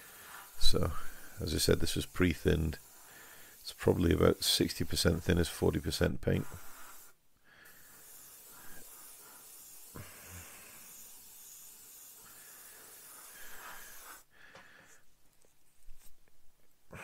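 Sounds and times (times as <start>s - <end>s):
airbrush hissing: 0.0s - 15.2s.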